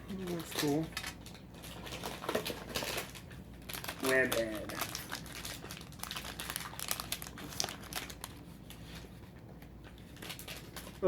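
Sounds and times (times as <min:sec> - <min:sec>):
foil pack crinkling: 0:00.0 - 0:11.0.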